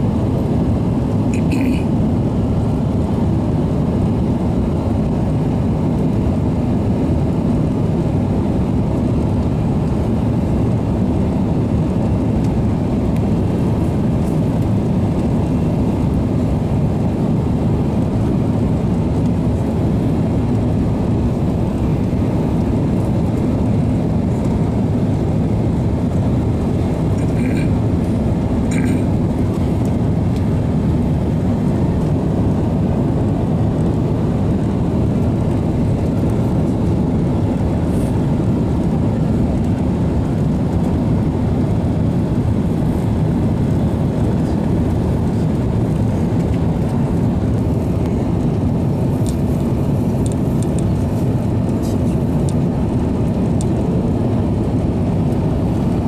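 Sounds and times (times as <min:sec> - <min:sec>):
airliner engines rumbling in cabin: 0:00.0 - 0:56.0.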